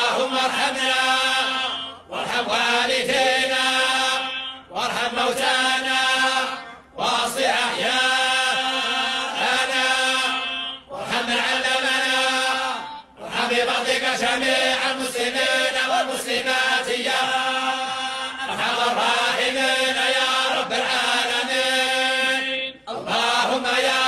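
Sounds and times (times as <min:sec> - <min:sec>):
person chanting melodically: 0:00.0 - 0:24.0.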